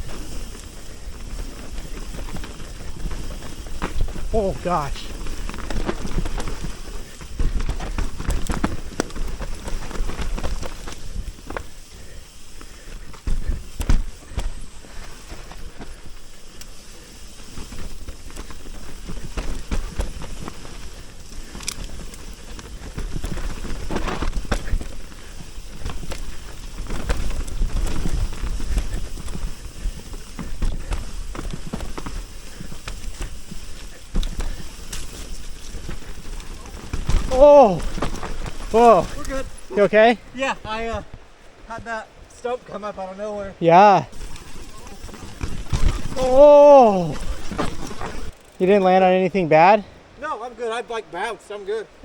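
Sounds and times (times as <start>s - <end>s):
bike clattering over rough trail: 0.0s - 50.6s.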